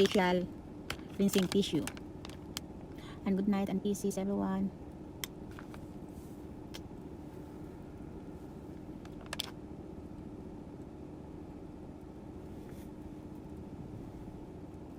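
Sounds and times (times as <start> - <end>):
faint constant tone: 0.0 - 14.9
low background hum: 0.0 - 14.9.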